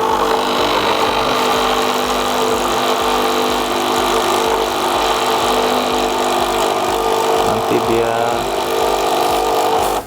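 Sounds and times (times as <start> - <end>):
brewing machine pump humming: 0.0 - 10.0.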